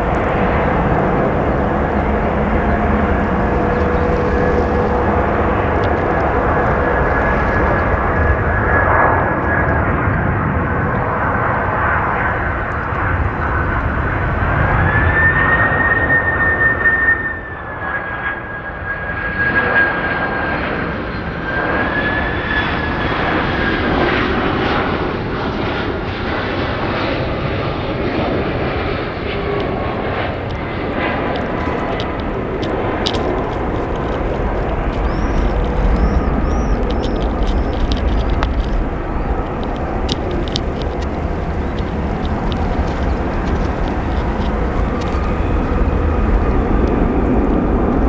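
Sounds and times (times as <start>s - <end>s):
high fan whine: 0.0s - 19.1s, 19.9s - 48.0s
deep airliner rumble: 0.0s - 48.0s
jet engines roaring: 0.0s - 48.0s.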